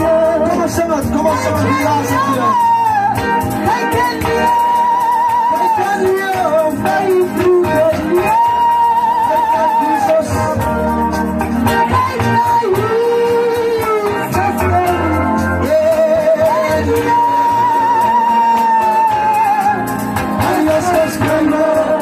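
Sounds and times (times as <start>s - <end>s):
amplified church music on keyboard: 0.0s - 22.0s.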